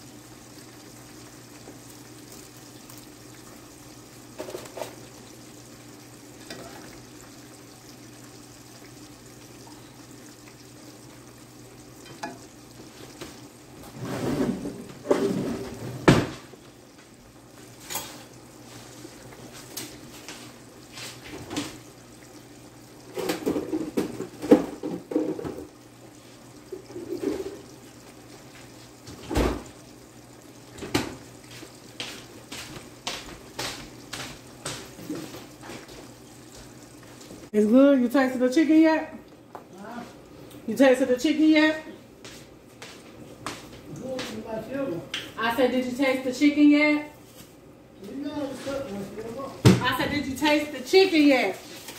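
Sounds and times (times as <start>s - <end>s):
fries sizzling in oil: 0.0s - 51.9s.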